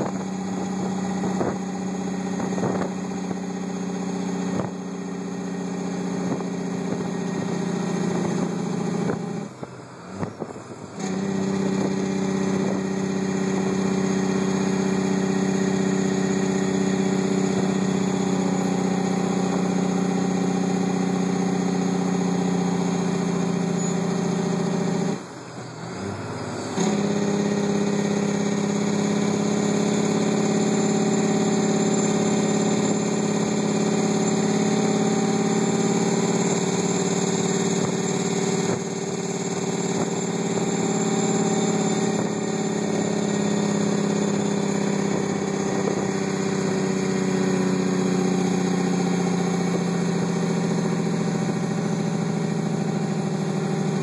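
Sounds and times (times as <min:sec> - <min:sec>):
truck engine brake: 0:00.0 - 0:54.0.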